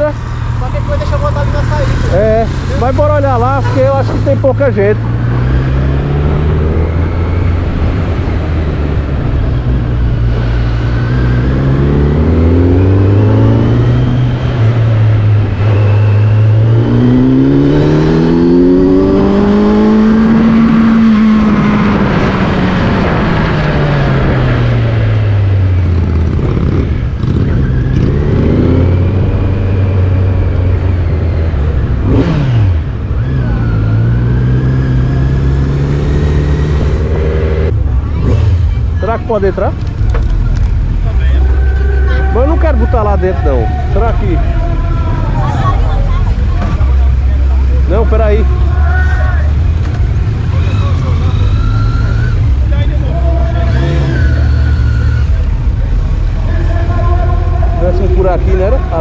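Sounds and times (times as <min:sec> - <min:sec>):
road and wind noise: 0:00.0 - 0:59.0
vehicle engine running: 0:00.0 - 0:59.0.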